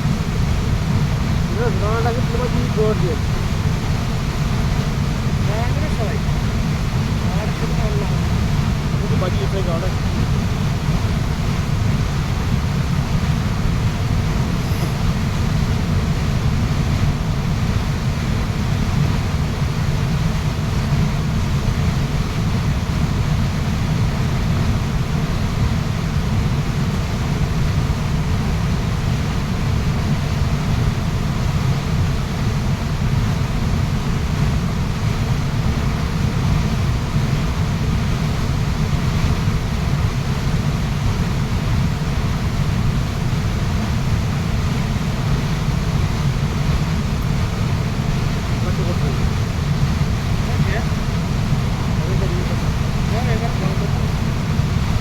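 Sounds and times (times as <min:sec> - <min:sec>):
waterfall roaring: 0:00.1 - 0:23.2, 0:34.0 - 0:55.0.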